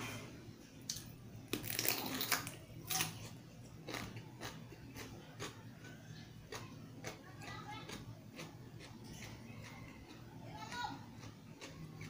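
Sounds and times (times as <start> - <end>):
cucumber crunching: 0.9 - 5.8, 6.5 - 12.0.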